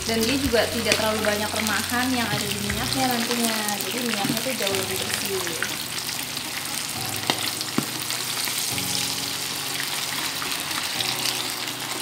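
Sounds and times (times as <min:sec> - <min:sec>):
fish deep-frying in hot oil: 0:00.0 - 0:12.0.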